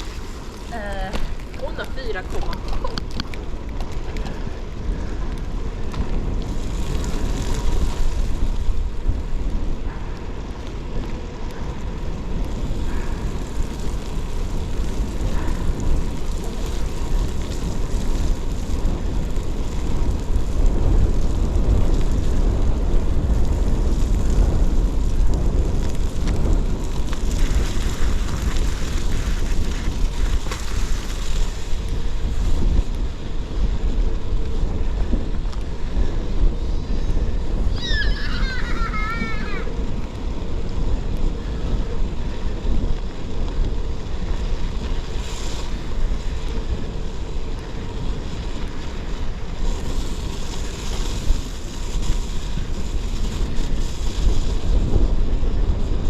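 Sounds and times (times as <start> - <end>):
bike tyres rolling on snow: 0.0 - 56.0
wind on microphone: 0.0 - 56.0.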